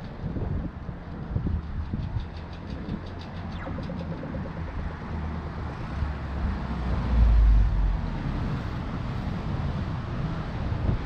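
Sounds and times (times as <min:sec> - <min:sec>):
passing road traffic: 0:00.0 - 0:11.0
wind buffeting microphone: 0:00.0 - 0:11.0.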